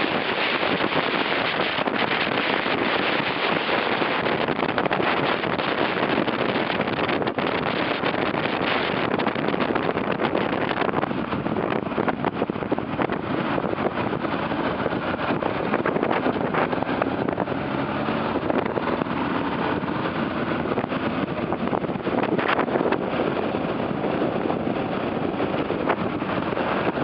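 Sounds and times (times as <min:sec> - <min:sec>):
motorcycle engine running: 0:00.0 - 0:27.0
wind noise on microphone: 0:00.0 - 0:27.0.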